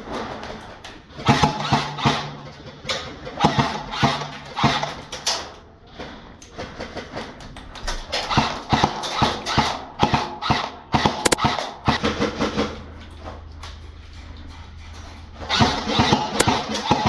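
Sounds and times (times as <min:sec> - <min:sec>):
sharp knocks and clicks: 0:00.4 - 0:17.0.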